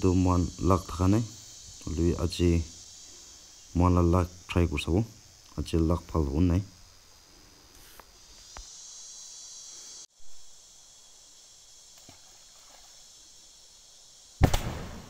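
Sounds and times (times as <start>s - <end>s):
high insect hiss: 0.0s - 15.0s.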